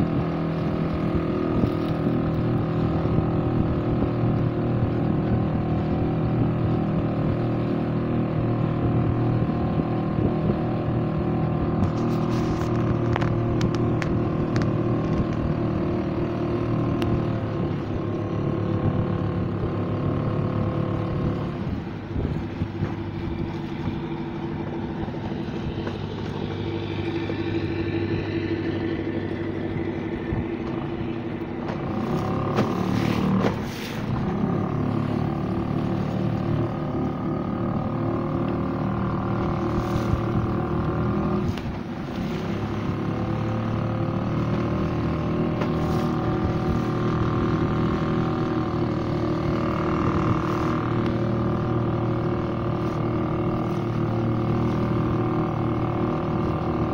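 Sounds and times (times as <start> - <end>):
motorboat engine running: 0.0 - 56.9
water rushing along hull: 0.0 - 56.9.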